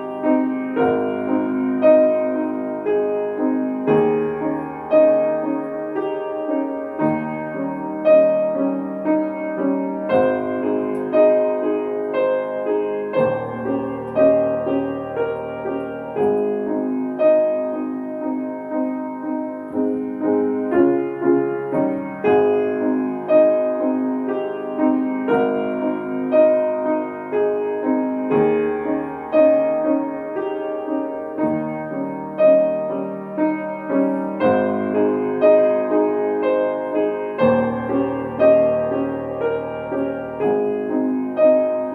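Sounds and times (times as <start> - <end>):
solo piano playing: 0.0 - 41.9.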